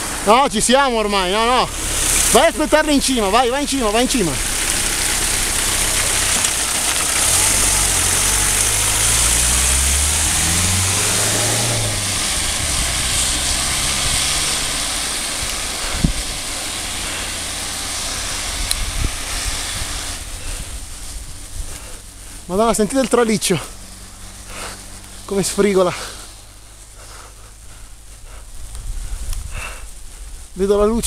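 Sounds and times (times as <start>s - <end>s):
van engine pulling away: 0.0s - 30.8s
rain hiss on wet road: 0.0s - 31.0s.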